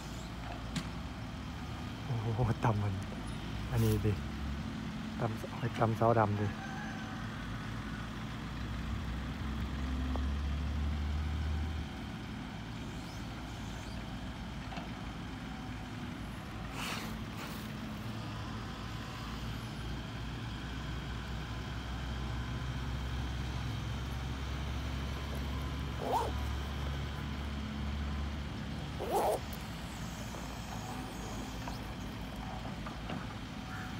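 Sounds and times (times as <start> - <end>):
diesel engine droning: 0.0 - 33.9.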